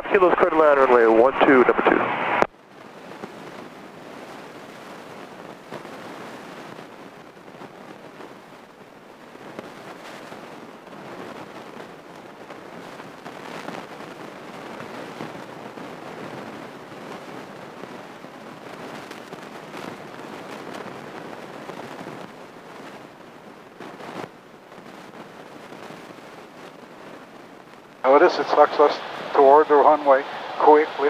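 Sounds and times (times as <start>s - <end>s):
airplane engine and airflow rush: 0.0s - 31.0s
radio crackles: 0.0s - 31.0s.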